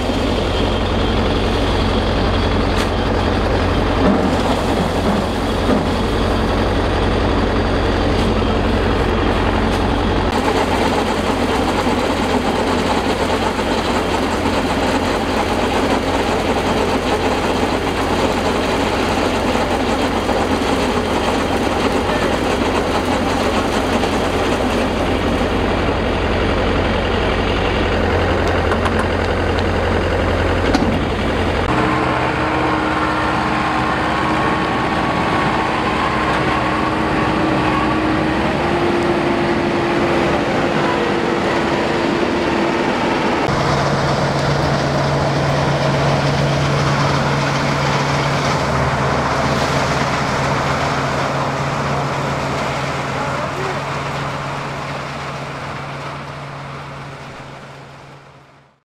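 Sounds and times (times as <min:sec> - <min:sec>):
combine harvester engine running: 0:00.0 - 0:58.8.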